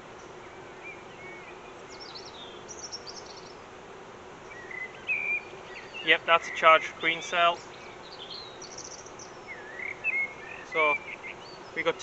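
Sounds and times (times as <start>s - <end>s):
honeybees humming: 0.0s - 12.0s
small birds chirping: 0.0s - 12.0s.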